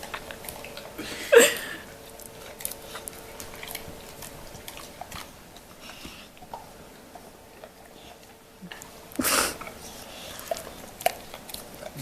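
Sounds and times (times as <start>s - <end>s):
dog licking and lip smacking: 0.0s - 1.0s, 1.8s - 12.0s.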